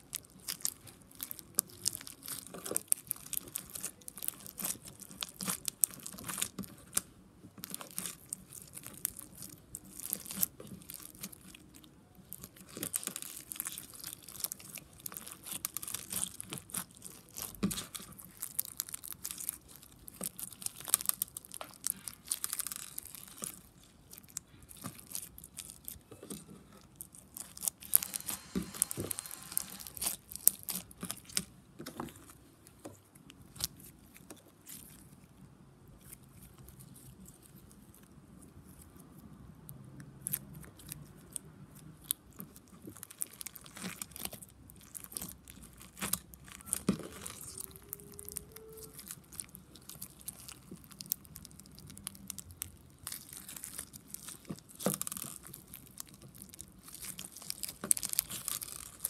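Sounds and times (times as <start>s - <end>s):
foam-bead slime crunching: 0.0s - 39.3s, 40.0s - 59.0s.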